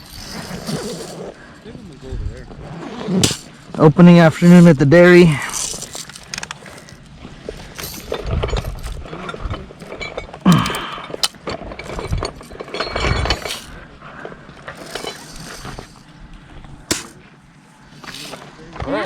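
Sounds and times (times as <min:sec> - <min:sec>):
gear clinking and rattling: 0:00.0 - 0:01.6, 0:02.5 - 0:18.6.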